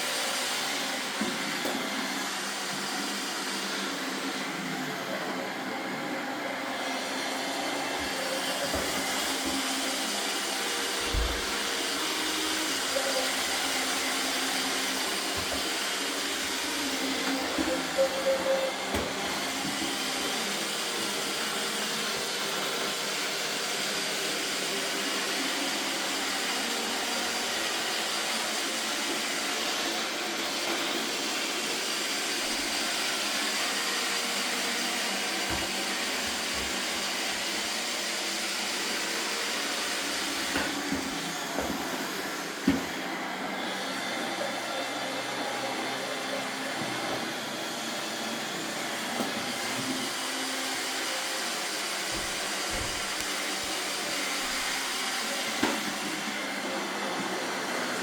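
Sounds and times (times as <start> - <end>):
robot vacuum whirring: 0.1 - 58.0.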